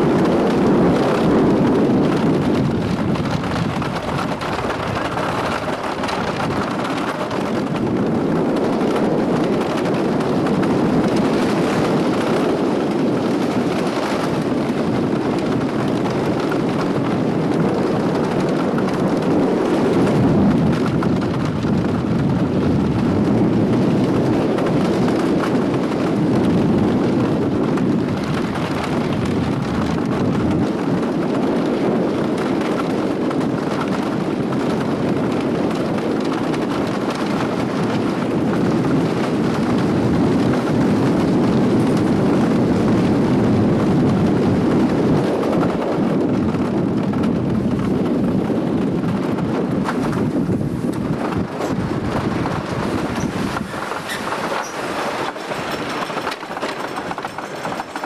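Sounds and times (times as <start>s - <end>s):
roller coaster wheels rumbling: 0.0s - 58.0s.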